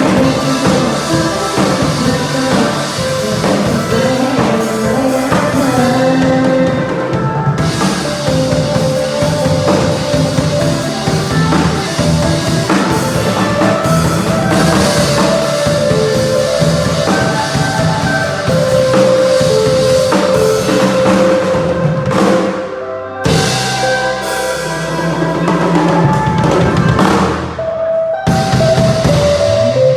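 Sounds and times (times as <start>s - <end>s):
band playing instrumental: 0.0s - 29.9s
drum kit: 0.0s - 29.9s.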